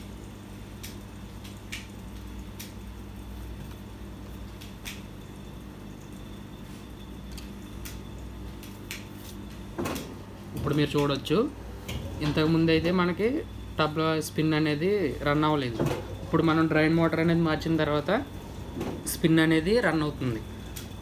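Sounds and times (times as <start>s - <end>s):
faint steady whine: 0.0s - 21.0s
washing machine motor hum: 0.0s - 21.0s.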